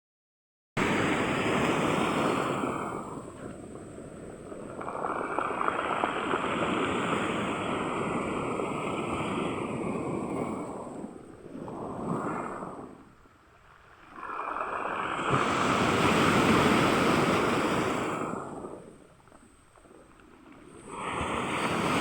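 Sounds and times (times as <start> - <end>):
ocean waves breaking on shore: 0.8 - 22.0.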